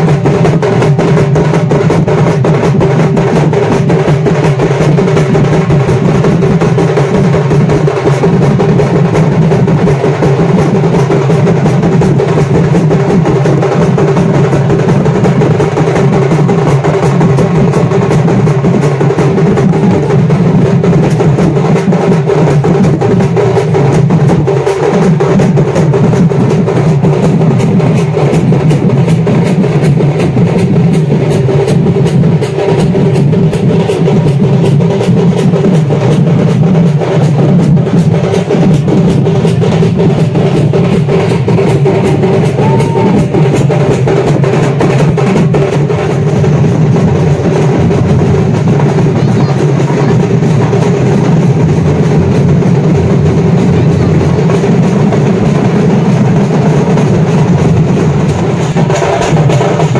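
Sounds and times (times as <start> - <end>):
drums and hand cymbals playing: 0.0 - 59.9.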